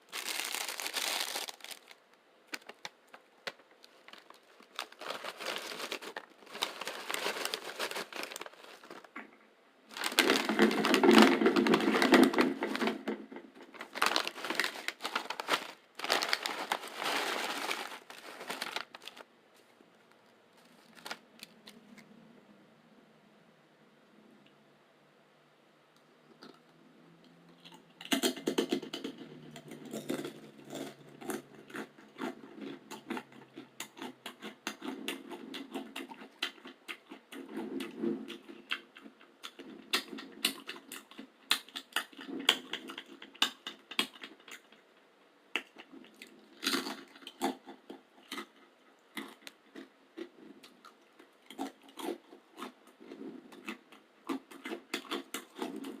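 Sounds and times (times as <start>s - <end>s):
crunchy chewing of crackers: 0.0s - 9.3s, 9.9s - 19.3s, 20.0s - 22.1s, 27.6s - 56.0s.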